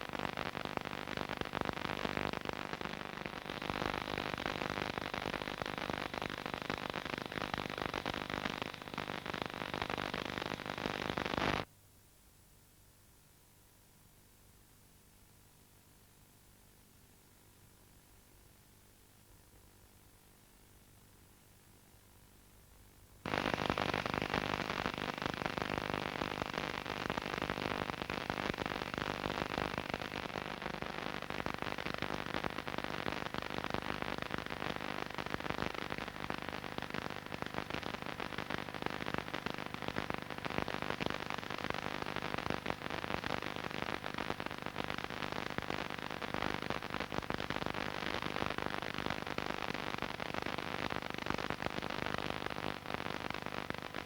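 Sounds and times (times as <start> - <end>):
dense hiss with crackle: 0.0 - 54.0.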